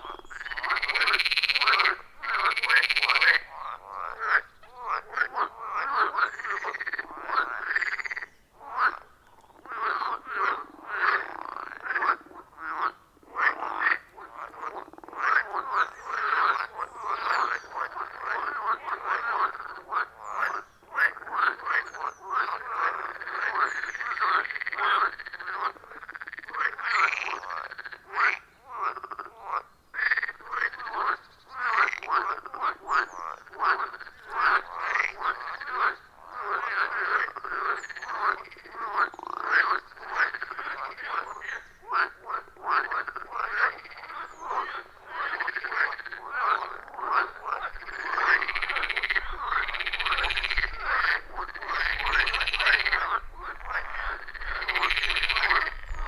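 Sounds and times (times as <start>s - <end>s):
frogs croaking chorus: 0.0s - 56.0s.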